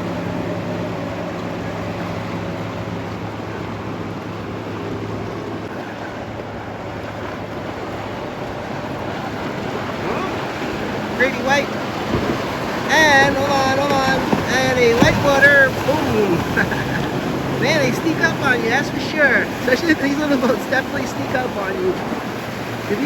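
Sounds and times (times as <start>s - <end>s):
boat engine drone: 0.0s - 23.0s
water washing: 0.0s - 23.0s
wind on microphone: 0.0s - 23.0s.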